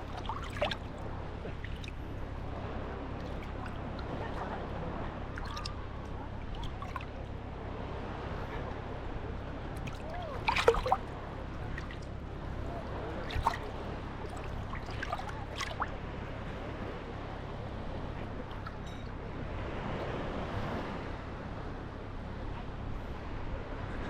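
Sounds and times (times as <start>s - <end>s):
low water wash: 0.0s - 24.0s
waves lapping and splashing: 0.0s - 24.0s.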